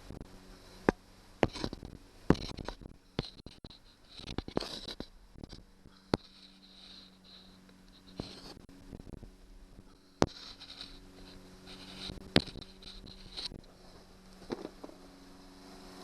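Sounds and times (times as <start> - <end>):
light scraping: 0.0 - 15.2
sharp clicks and knocks: 0.1 - 9.3, 9.9 - 15.0.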